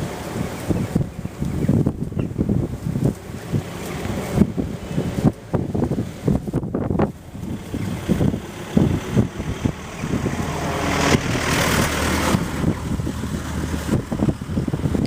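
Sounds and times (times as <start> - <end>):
vehicle passing: 0.0 - 15.0
wind buffeting microphone: 0.0 - 15.0.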